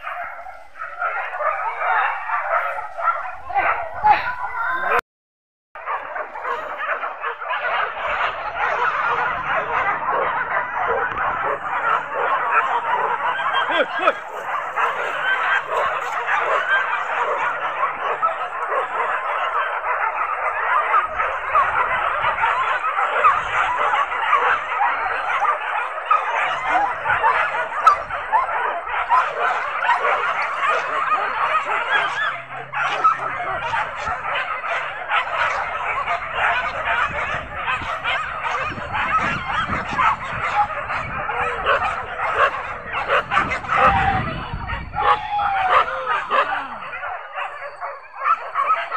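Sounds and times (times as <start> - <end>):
dogs barking and yelping: 0.0 - 5.0, 5.8 - 48.9.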